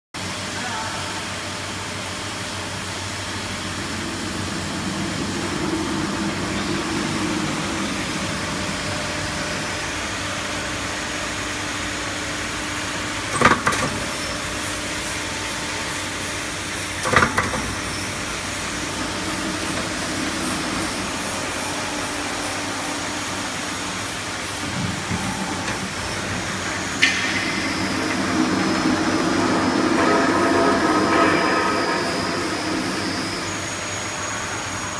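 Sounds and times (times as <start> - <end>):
roll forming machine running: 1.3 - 34.9
high whine: 2.4 - 34.9.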